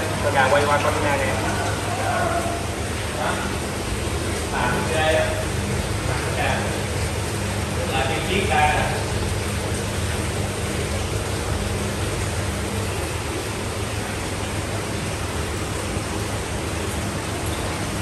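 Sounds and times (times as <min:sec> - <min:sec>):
fan and pumps rushing: 0:00.0 - 0:18.0.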